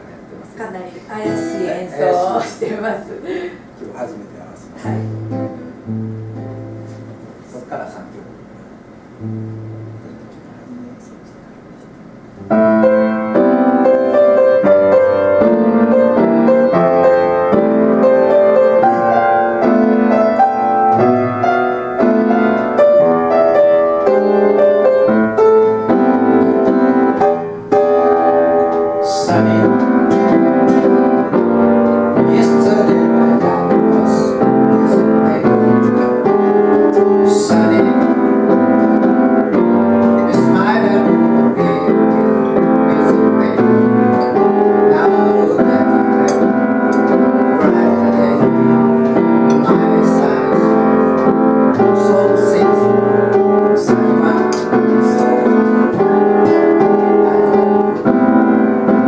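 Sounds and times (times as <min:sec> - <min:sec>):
jazz piano: 0:03.6 - 0:59.0.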